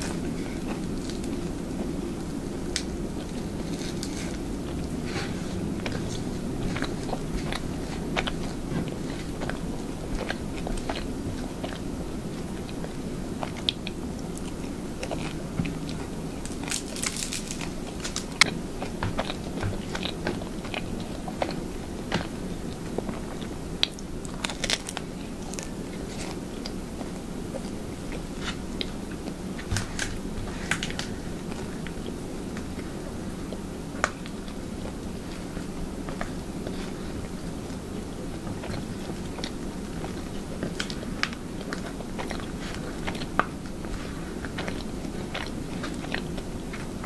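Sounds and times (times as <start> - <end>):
chewing and crunching toast: 0.0 - 47.0.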